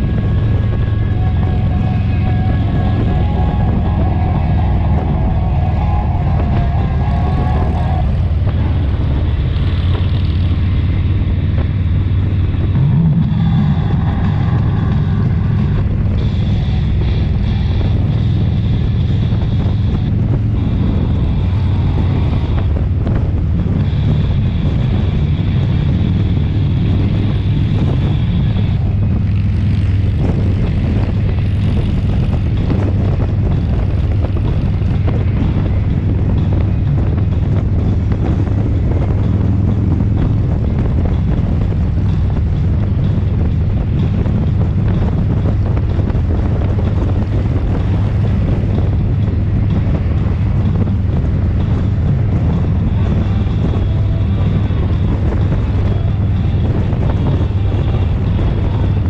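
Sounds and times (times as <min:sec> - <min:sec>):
motorcycle engine and road rumble: 0:00.0 - 0:59.0
wind buffeting microphone: 0:00.0 - 0:59.0.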